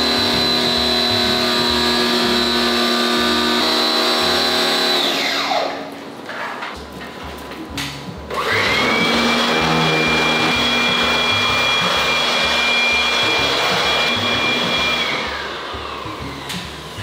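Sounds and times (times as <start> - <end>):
pump motor whine: 0.0 - 6.2, 8.2 - 17.0.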